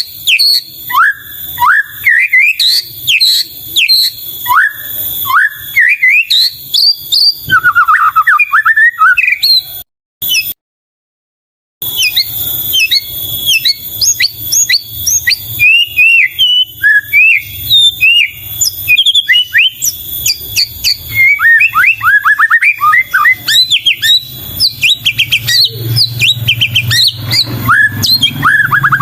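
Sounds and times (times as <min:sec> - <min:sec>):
songbird whistles and chirps: 0:00.0 - 0:10.6, 0:11.8 - 0:29.0.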